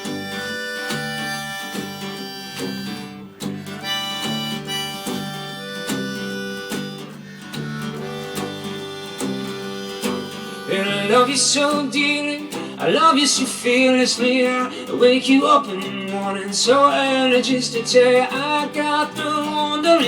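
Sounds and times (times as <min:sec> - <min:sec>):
acoustic guitar strummed: 0:00.0 - 0:20.0
harmonica melody: 0:00.0 - 0:20.0.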